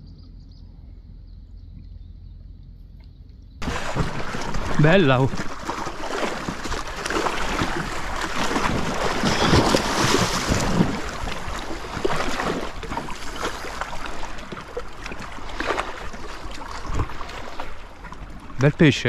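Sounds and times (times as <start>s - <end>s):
water splashing and sloshing: 2.6s - 19.0s.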